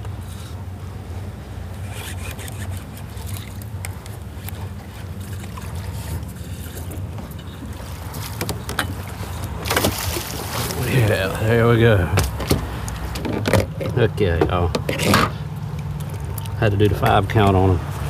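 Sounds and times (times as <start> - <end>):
outboard motor idling: 0.0 - 18.0.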